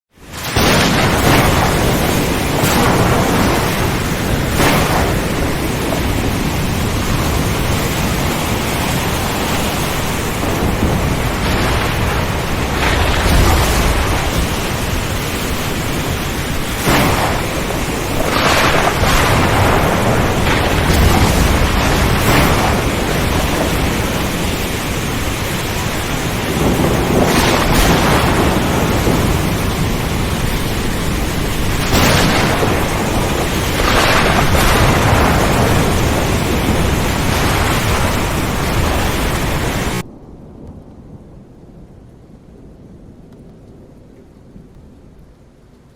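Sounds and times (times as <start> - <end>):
heavy rain hissing: 0.1 - 40.1
surf surging: 0.1 - 40.1
low rolling thunder: 0.2 - 45.9.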